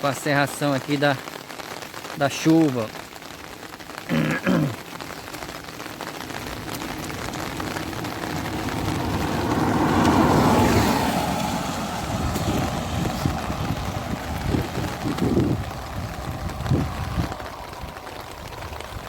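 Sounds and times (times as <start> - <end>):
car passing on wet road: 1.3 - 19.0.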